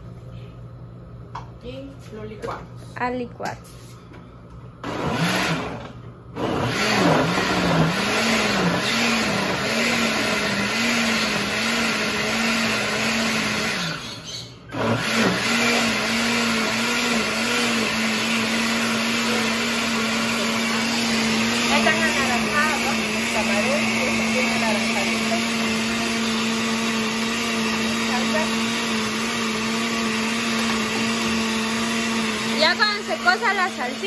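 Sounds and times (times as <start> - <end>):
blender running: 4.8 - 34.0.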